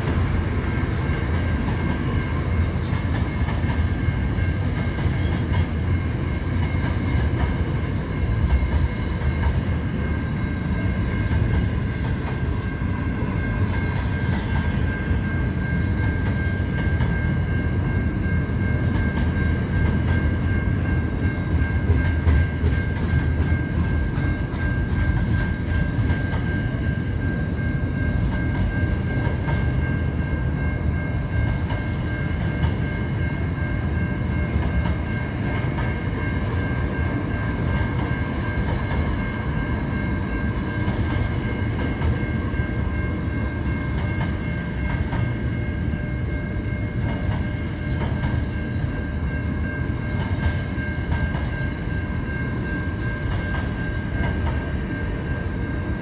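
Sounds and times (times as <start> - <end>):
train wagons rumbling past: 0.0 - 56.0.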